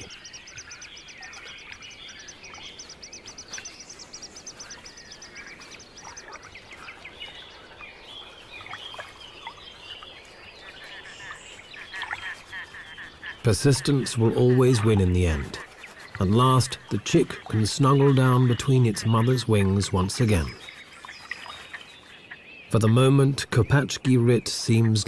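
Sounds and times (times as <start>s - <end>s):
bird trilling: 0.0s - 22.4s
bird chirps: 0.0s - 25.0s.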